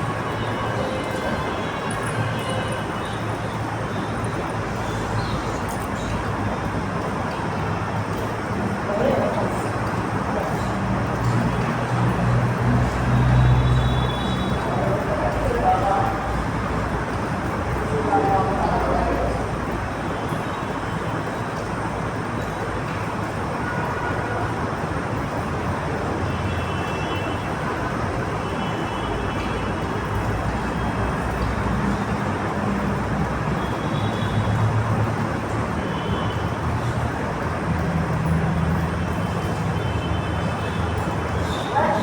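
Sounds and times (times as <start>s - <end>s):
road traffic noise: 0.0s - 42.0s.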